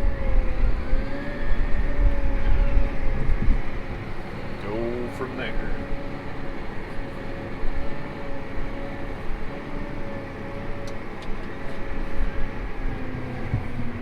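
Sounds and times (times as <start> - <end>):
fans running: 0.0 - 14.0
thin steady whine: 0.0 - 14.0
tractor engine rumble: 0.0 - 14.0.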